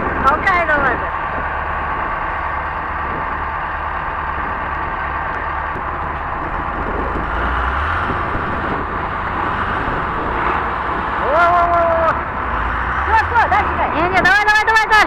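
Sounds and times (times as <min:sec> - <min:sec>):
diesel engines under load: 0:00.0 - 0:15.0.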